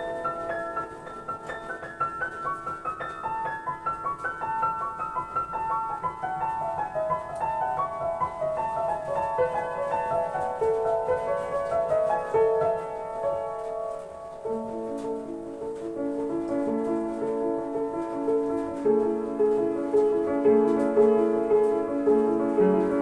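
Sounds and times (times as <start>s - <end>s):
solo piano improvisation: 0.0s - 23.0s.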